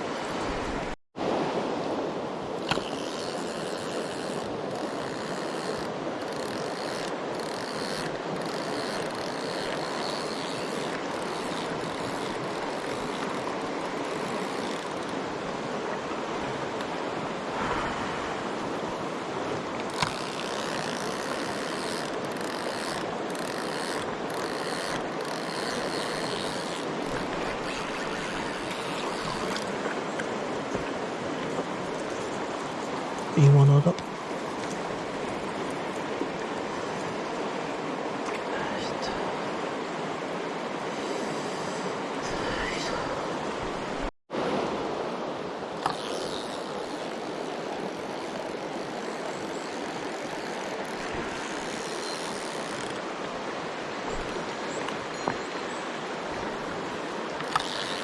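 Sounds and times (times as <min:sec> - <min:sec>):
mountain stream water rushing: 0:00.0 - 0:58.0.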